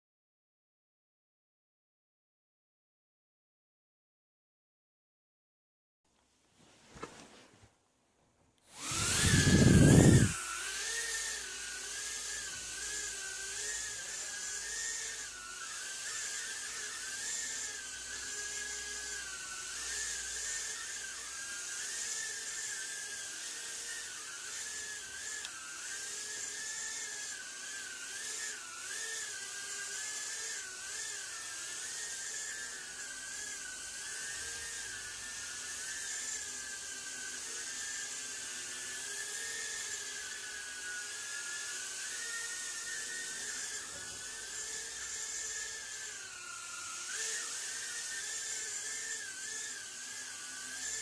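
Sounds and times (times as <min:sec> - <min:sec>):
quadcopter motors whining: 0:08.7 - 0:51.0.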